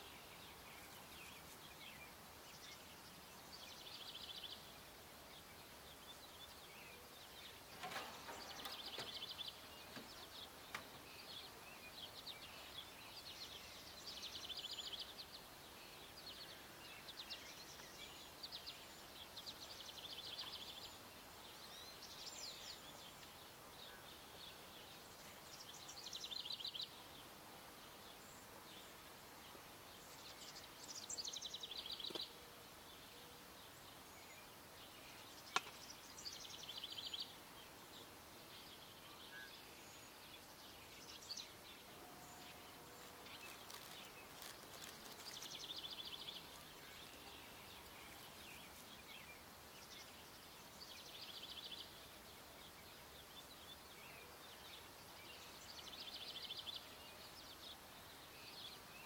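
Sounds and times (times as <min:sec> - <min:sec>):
faint background hiss: 0:00.0 - 0:59.0.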